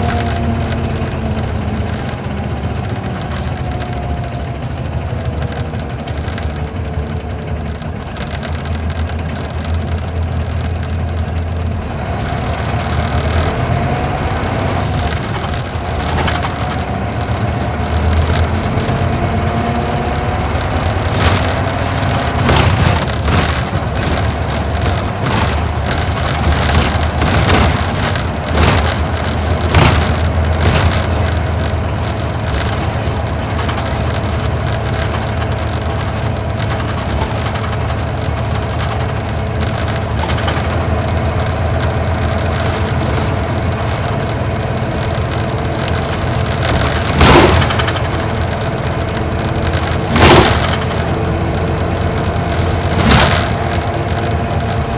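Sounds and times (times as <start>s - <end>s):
diesel coach engine running: 0.0s - 54.9s
sharp knocks and rattles: 0.0s - 54.9s.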